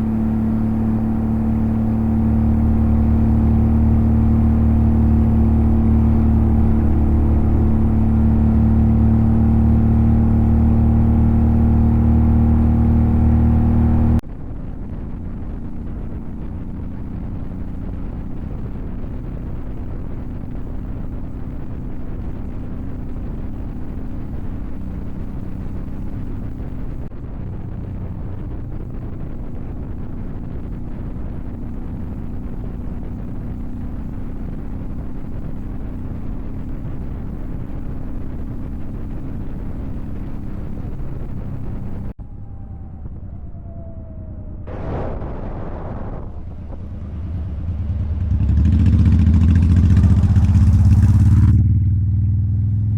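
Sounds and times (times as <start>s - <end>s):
noisy rush: 0.0s - 51.5s
motorcycle engine running: 0.0s - 52.9s.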